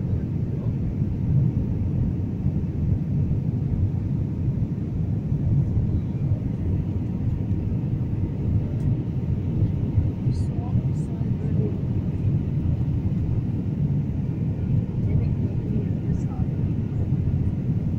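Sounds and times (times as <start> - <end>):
airplane cabin engine rumble: 0.0 - 17.9.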